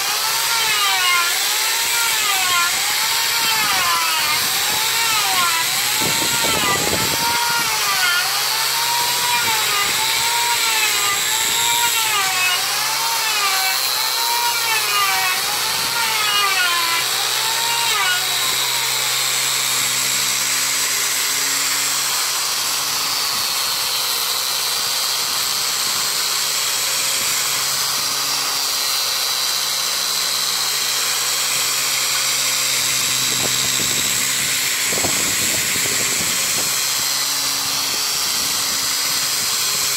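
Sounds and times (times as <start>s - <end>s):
angle grinder sanding wood: 0.0s - 39.9s.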